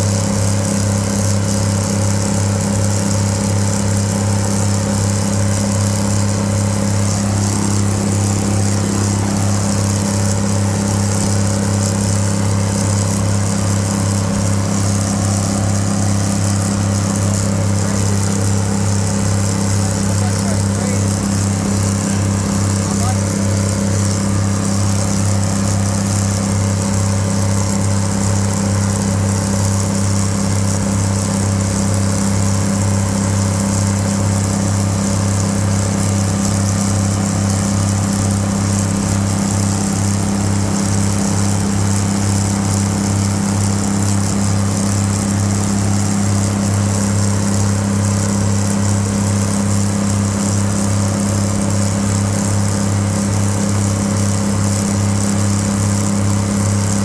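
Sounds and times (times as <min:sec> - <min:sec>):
diesel locomotive engines revving: 0:00.0 - 0:57.0.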